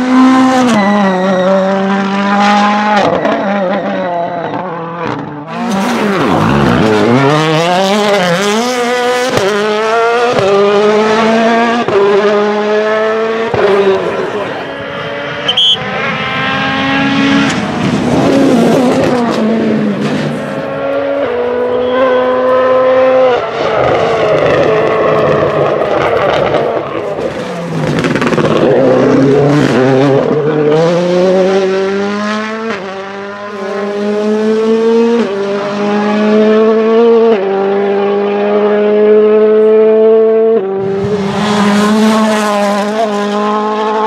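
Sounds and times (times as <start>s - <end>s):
rally car engines accelerating hard: 0.0s - 44.0s.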